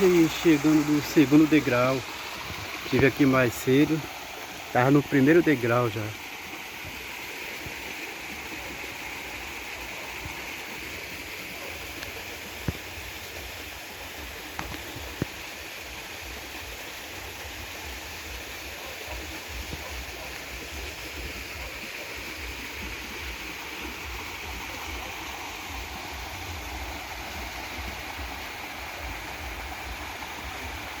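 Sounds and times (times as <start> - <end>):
river rushing: 0.0 - 31.0.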